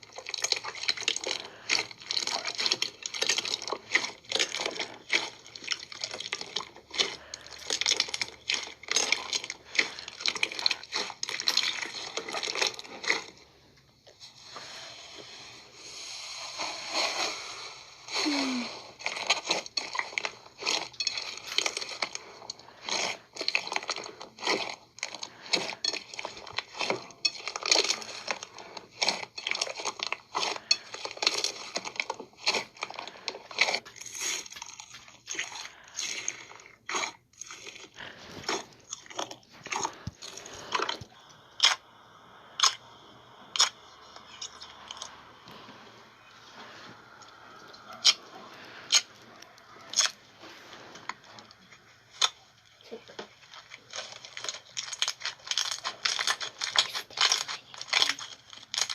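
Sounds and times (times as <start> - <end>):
slime crunching and crackling: 0.0 - 58.9.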